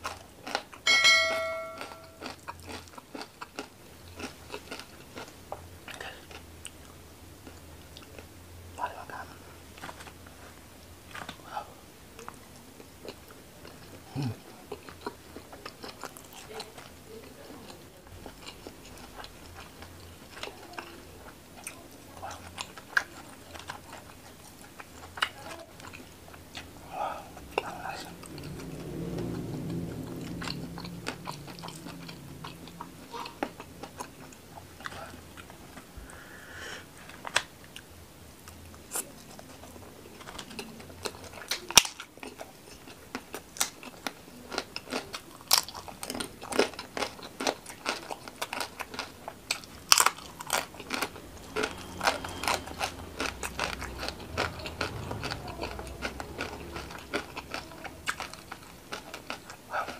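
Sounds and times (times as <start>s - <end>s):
close chewing: 0.0s - 0.8s, 1.7s - 8.3s, 8.9s - 36.1s, 37.0s - 59.9s
crunching of fried crackers: 0.0s - 0.8s, 2.2s - 8.3s, 12.2s - 35.9s, 37.0s - 59.9s.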